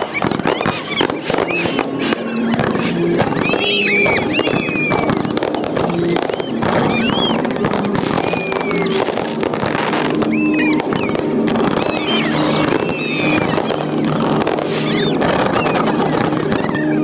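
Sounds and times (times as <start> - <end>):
fireworks bangs and crackling: 0.0 - 17.0
whistling firework shells: 0.0 - 17.0.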